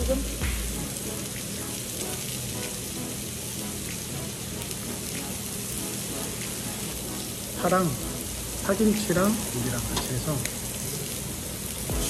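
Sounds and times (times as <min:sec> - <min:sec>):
meat sizzling on a grill: 0:00.1 - 0:12.0.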